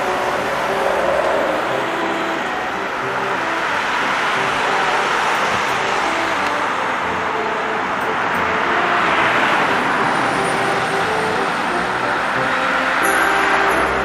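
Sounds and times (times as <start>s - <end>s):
bus passing close by: 0.0s - 14.0s
street traffic: 0.0s - 14.0s.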